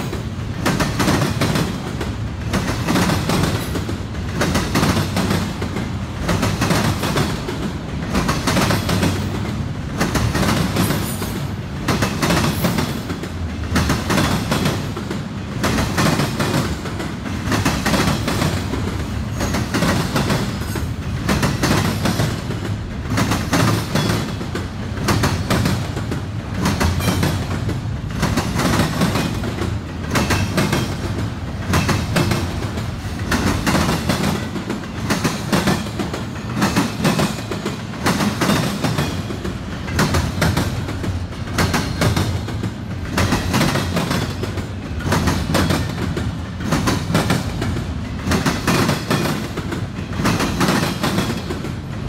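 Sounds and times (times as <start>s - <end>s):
train rumble: 0.0s - 52.0s
train wheels clattering over crossings: 0.0s - 52.0s.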